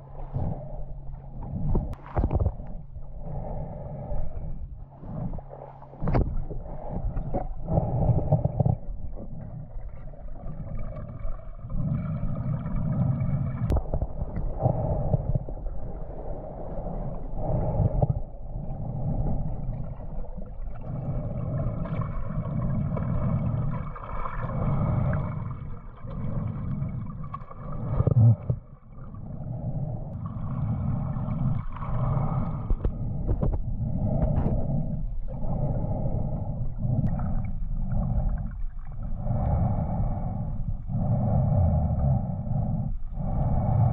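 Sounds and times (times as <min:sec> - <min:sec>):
muffled water gurgling and sloshing: 0:00.0 - 0:43.9.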